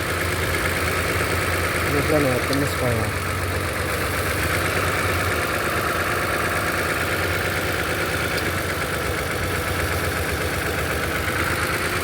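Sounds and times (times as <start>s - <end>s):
car engine idling with misfire: 0.0s - 12.0s.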